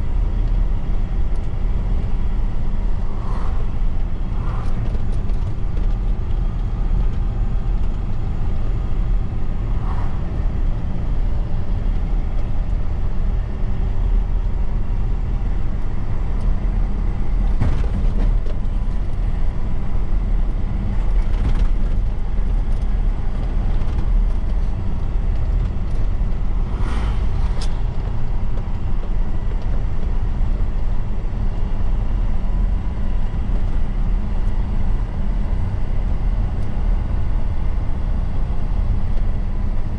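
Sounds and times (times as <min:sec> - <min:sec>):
heavy truck engine rumble: 0:00.0 - 0:39.9.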